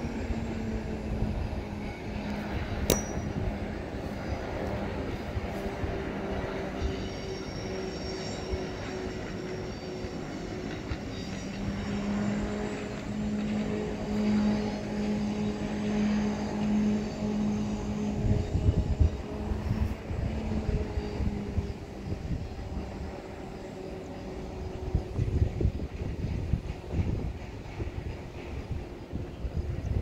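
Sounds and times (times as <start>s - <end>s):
distant passenger train passing: 0.0s - 30.0s.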